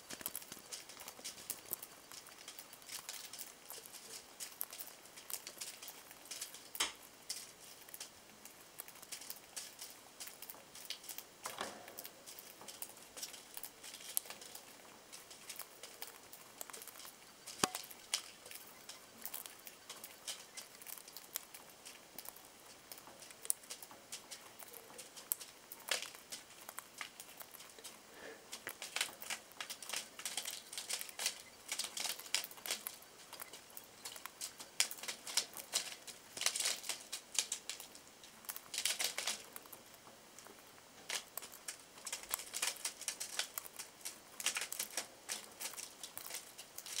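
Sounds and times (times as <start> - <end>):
bird cracking seeds: 0.0 - 47.0.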